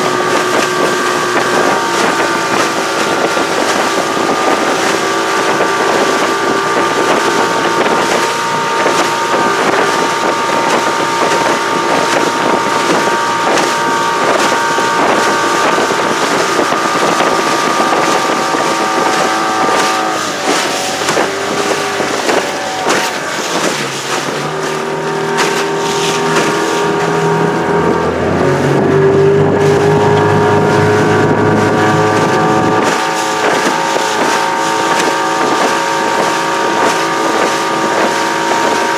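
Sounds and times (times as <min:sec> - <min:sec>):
outboard motor running: 0:00.0 - 0:38.9
wind on microphone: 0:00.0 - 0:38.9.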